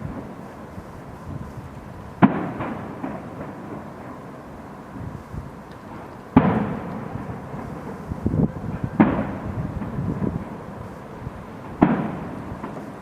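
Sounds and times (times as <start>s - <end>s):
fireworks booming: 0.0s - 13.0s
fireworks pops: 0.0s - 13.0s.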